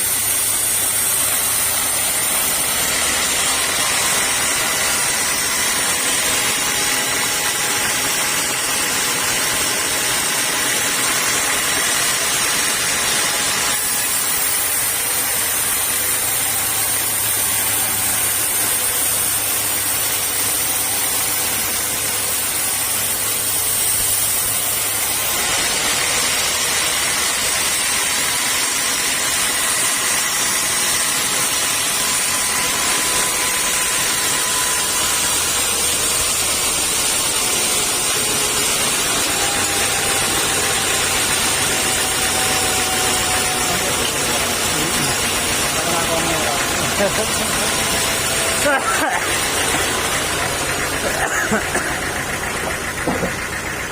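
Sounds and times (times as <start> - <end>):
sawmill saw whining: 0.0 - 53.9.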